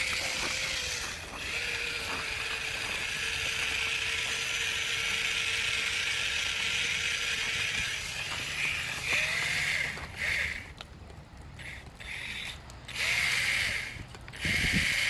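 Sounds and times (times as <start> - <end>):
toy crawler motor and gears whirring: 0.0 - 10.8, 11.4 - 15.0
tracks driving over ice and snow: 0.0 - 15.0.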